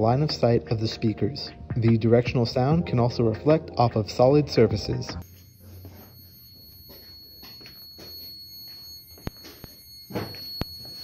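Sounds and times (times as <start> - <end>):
steady high-pitched tone: 0.0 - 11.0.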